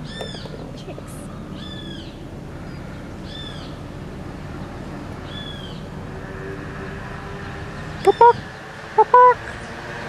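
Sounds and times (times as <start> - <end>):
bird calling: 0.0 - 6.1, 7.5 - 9.8
outdoor background noise: 0.0 - 10.0.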